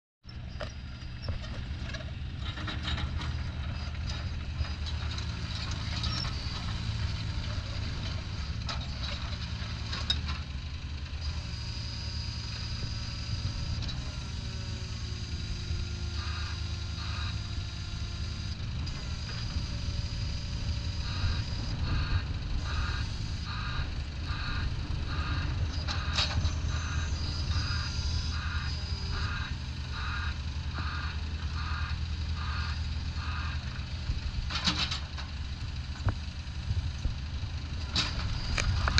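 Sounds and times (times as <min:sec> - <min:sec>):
excavator diesel engine running: 0:00.2 - 0:38.9.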